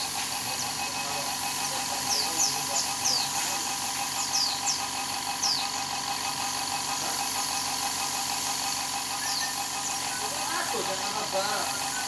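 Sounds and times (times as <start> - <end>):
air compressor humming and hissing: 0.0 - 12.0.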